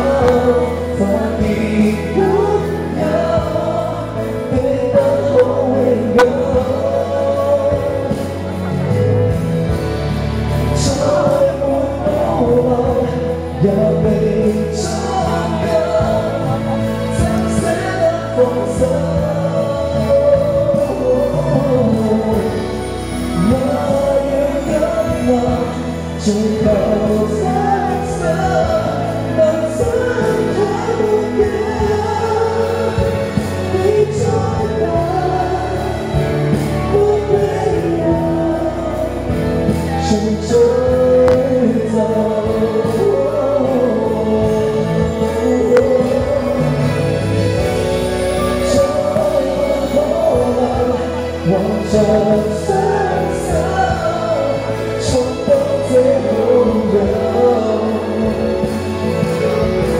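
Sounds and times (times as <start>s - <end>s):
man singing into a microphone: 0.0s - 59.9s
recorded backing track: 0.0s - 59.9s.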